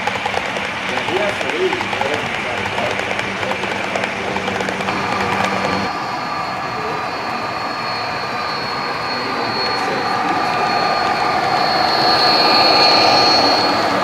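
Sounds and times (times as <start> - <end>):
high whining tones: 0.0 - 14.0
low drone: 0.0 - 14.0
model trains humming: 0.0 - 14.0.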